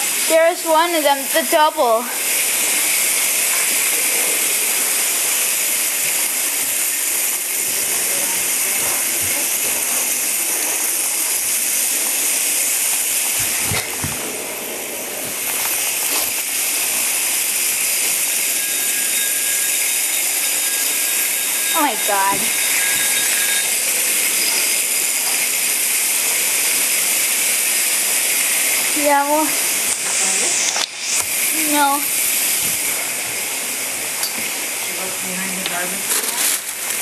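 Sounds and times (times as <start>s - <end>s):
toy robots buzzing on hard floor: 0.0s - 37.0s.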